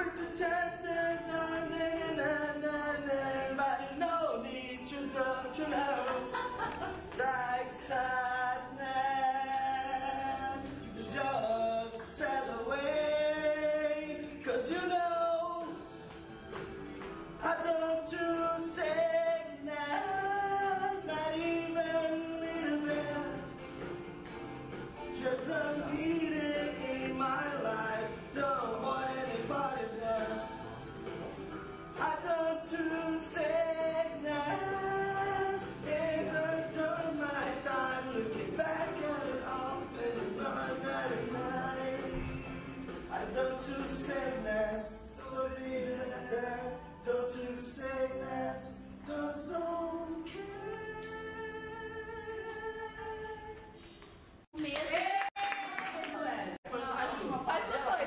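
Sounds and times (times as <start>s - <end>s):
man singing unaccompanied: 0.0s - 16.1s, 17.4s - 23.8s, 24.9s - 30.9s, 31.9s - 53.8s.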